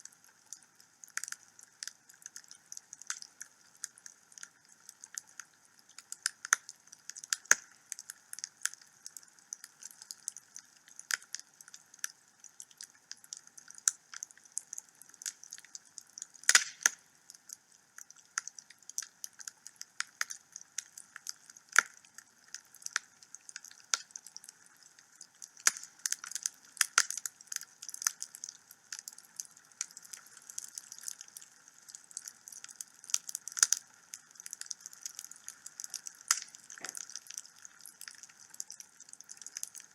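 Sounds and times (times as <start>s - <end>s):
fire snaps and pops: 0.0s - 39.9s
wood fire crackling: 0.0s - 39.9s.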